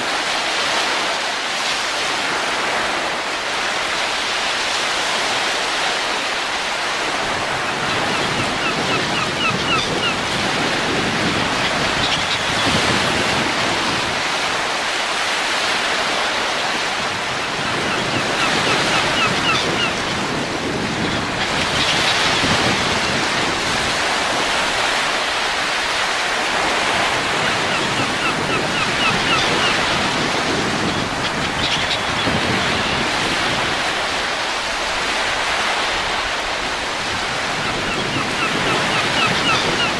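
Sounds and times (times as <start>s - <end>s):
wind blowing in gusts: 0.0s - 39.9s.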